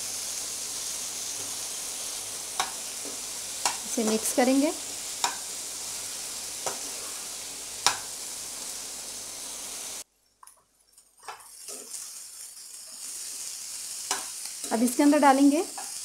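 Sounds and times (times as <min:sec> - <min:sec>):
food sizzling in oil: 0:00.0 - 0:10.1, 0:11.0 - 0:16.0.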